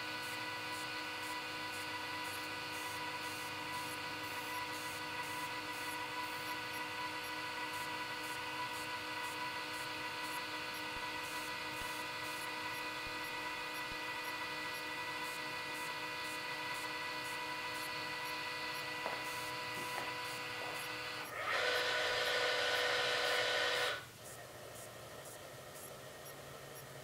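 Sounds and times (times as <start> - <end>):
telescope drive motors whining: 0.0 - 27.0.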